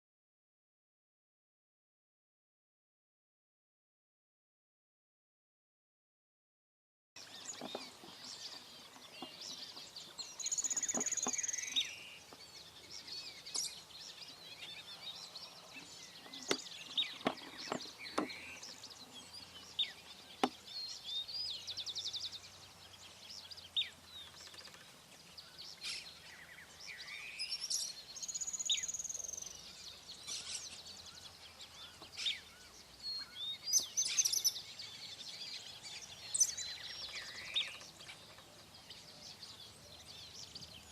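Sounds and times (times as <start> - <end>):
birds chirping: 7.2 - 40.9.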